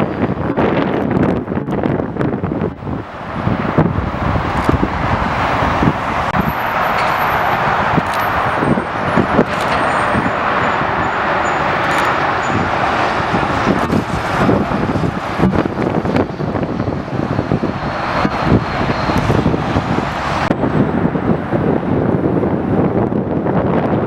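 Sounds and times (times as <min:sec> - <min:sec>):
loud roar of broad noise: 0:00.0 - 0:24.0
wind buffeting microphone: 0:00.0 - 0:24.0.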